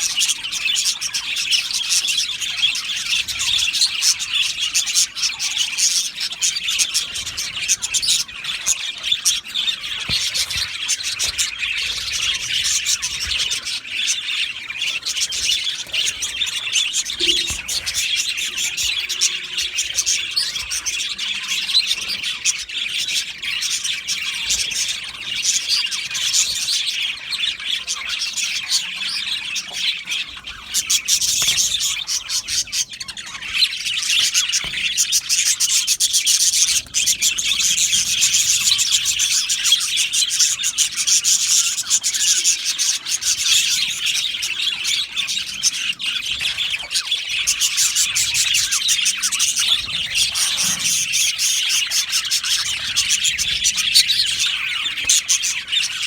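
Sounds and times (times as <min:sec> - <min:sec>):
flock of budgerigars chattering: 0:00.0 - 0:56.0.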